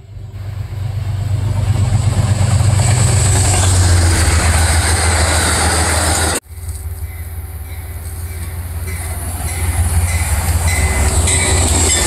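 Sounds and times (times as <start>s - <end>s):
train passing at speed: 0.0s - 12.0s
coaches rattling on rails: 0.4s - 12.0s.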